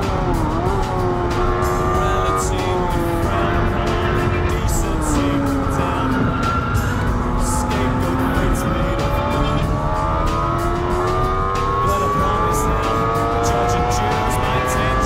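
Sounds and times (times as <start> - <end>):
car engine accelerating hard: 0.0 - 15.0
road and wind noise: 0.0 - 15.0.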